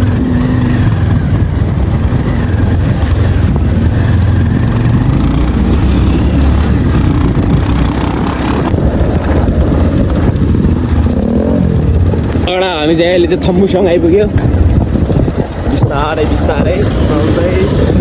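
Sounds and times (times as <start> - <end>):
motorcycle engine running: 0.0 - 18.0
road noise: 0.0 - 18.0.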